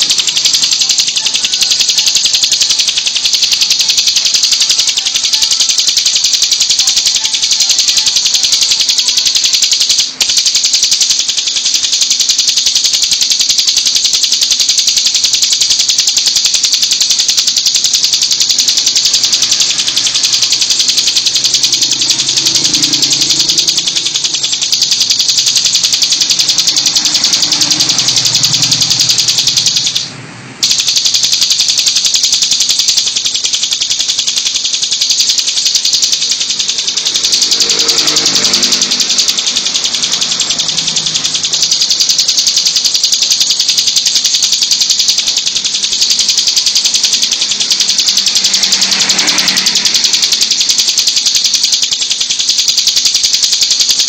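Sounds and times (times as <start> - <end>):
bird buzzing trill: 0.0 - 54.0.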